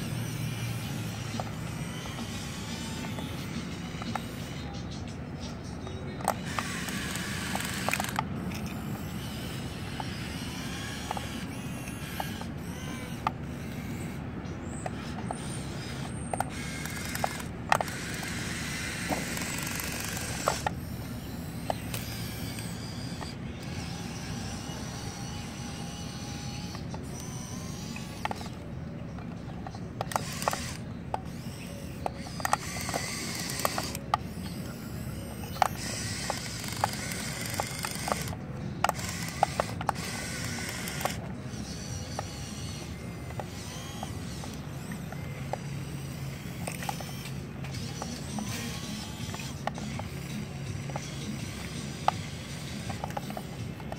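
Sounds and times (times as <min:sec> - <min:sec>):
plastic gears clicking: 0:00.0 - 0:05.1, 0:06.2 - 0:14.2, 0:14.8 - 0:53.9
toy excavator motors whirring: 0:00.0 - 0:53.9.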